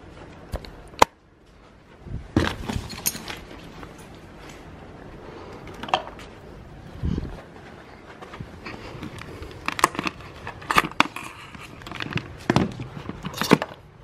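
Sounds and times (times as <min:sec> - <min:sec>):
rustling belongings: 0:00.0 - 0:14.0.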